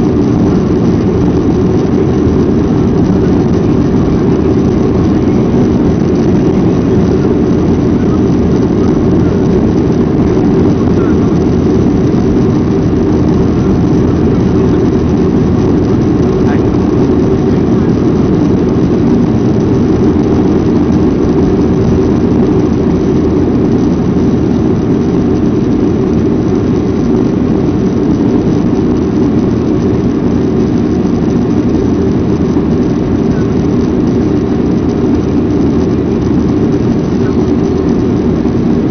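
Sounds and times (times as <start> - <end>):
aircraft cabin engine noise: 0.0 - 38.9.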